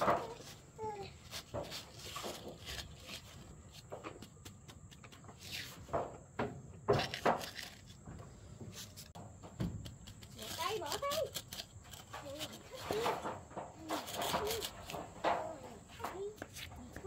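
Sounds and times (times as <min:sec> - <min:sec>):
knocks and scuffs: 0:00.0 - 0:10.4, 0:12.2 - 0:17.0.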